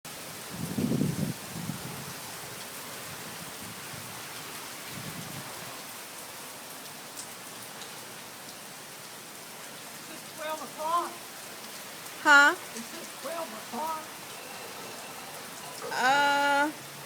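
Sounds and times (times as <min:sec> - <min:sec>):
heavy rain on hard surfaces: 0:00.0 - 0:17.0.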